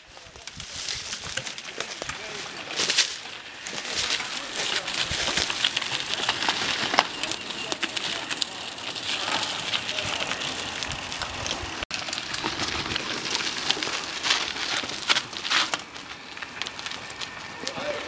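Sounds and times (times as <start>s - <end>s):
bike clicks and rattles: 0.0s - 18.0s
bike tyres crunching over leaves: 0.0s - 18.0s.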